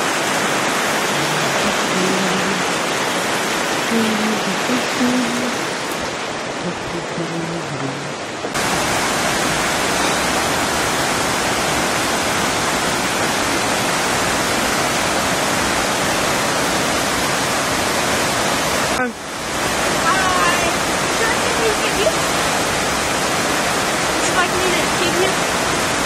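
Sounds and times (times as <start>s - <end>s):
creek water rushing over rocks: 0.0s - 26.0s
waterfall pouring into rapids: 0.0s - 26.0s.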